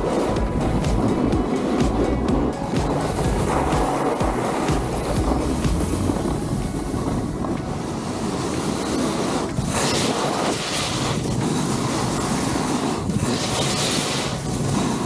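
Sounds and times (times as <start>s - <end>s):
snowboard scraping over snow: 0.0s - 15.0s
wind on microphone: 0.0s - 15.0s.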